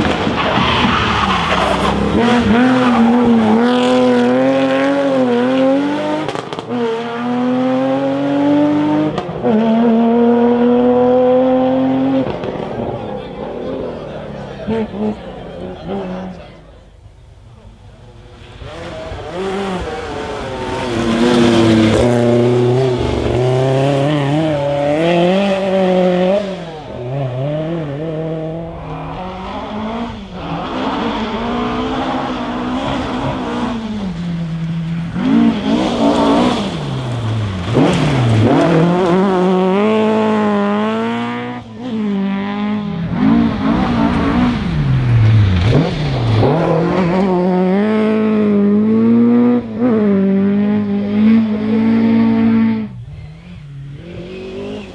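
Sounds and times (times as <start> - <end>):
rally car engine revving: 0.0 - 16.6, 18.1 - 54.9.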